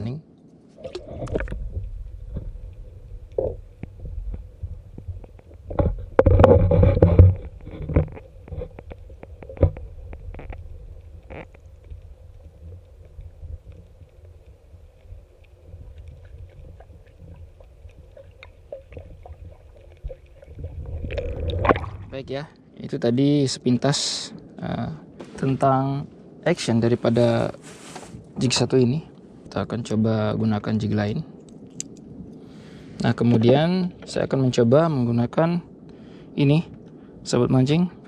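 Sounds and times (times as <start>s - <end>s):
muffled underwater rumble: 0.7s - 38.0s.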